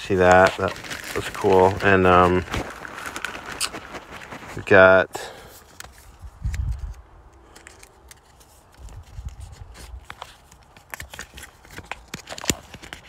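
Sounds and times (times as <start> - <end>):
cardboard and plastic bags rustling: 0.0 - 13.0.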